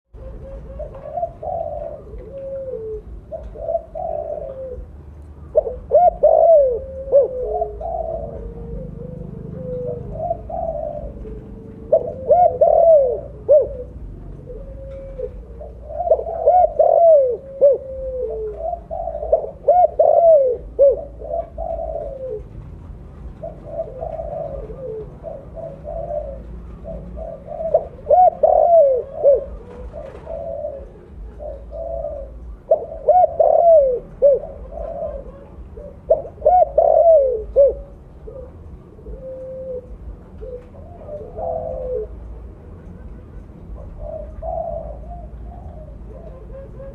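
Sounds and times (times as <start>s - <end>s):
dove cooing: 0.1s - 46.9s.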